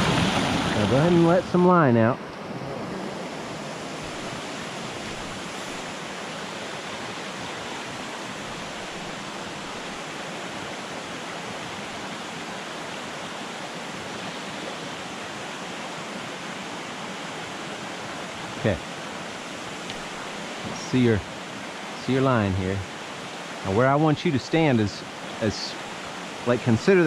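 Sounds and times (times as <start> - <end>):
stream rushing over boulders: 0.0 - 27.0.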